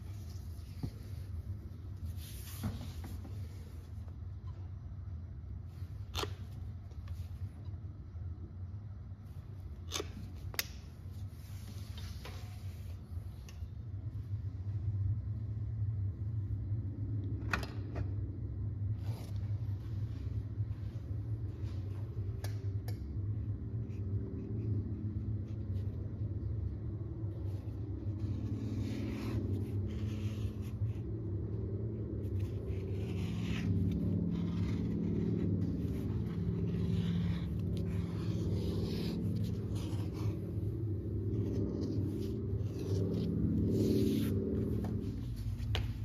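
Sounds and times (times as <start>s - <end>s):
low workshop hum: 0.0s - 46.0s.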